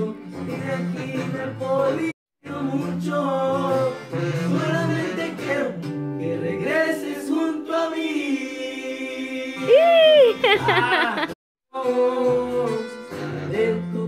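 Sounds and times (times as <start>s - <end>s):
guitar accompaniment: 0.0s - 7.2s, 9.6s - 14.0s
man singing: 0.0s - 14.0s.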